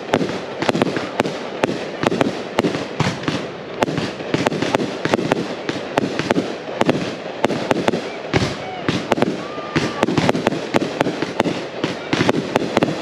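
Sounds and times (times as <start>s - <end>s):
continuous noisy background: 0.0s - 13.0s
firework cake shots: 0.0s - 13.0s.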